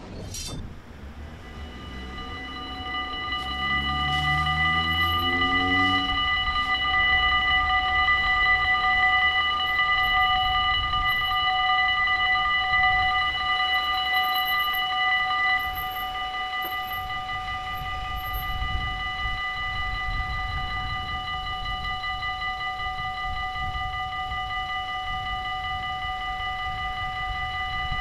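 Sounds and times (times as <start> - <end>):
level crossing bells ringing: 0.7 - 28.0.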